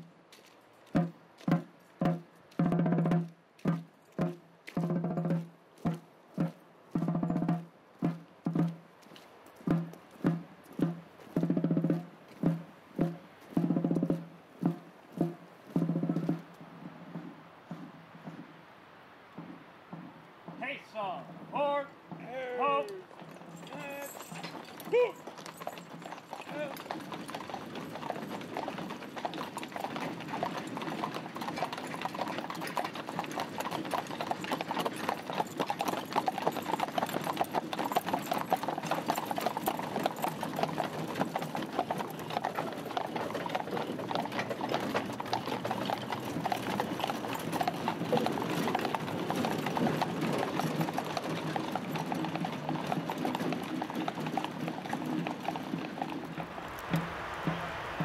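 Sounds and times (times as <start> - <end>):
horse hooves clip-clopping on wet road: 0.0 - 58.0.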